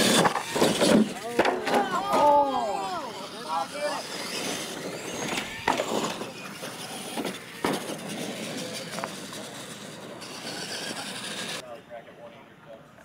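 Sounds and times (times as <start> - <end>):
toy truck motors whining: 0.0 - 11.6.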